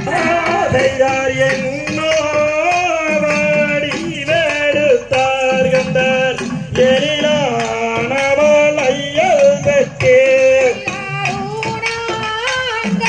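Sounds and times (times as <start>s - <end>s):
person singing folk song: 0.0s - 13.0s
steady percussion beat: 0.0s - 13.0s.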